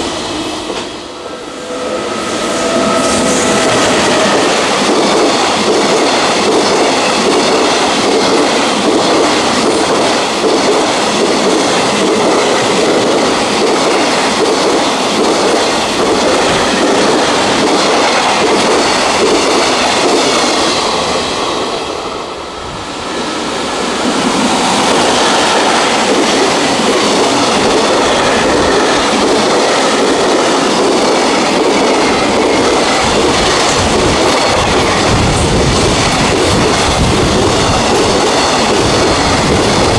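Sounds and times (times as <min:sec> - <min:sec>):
train wheels clattering over rails: 0:02.3 - 0:22.0, 0:23.1 - 0:39.9.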